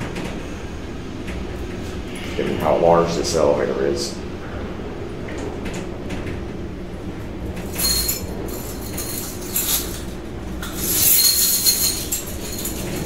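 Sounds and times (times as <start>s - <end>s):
elevator hoist humming: 0.0s - 13.0s.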